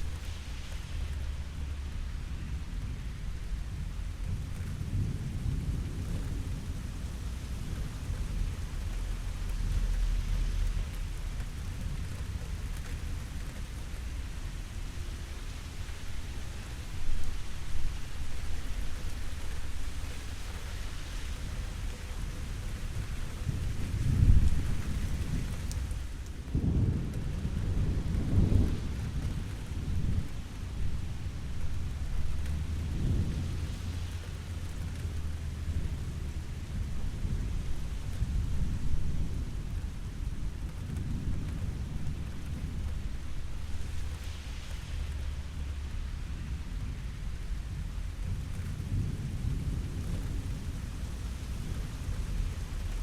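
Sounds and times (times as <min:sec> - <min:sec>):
low rolling thunder: 0:00.0 - 0:53.0
steady rain falling: 0:00.0 - 0:53.0.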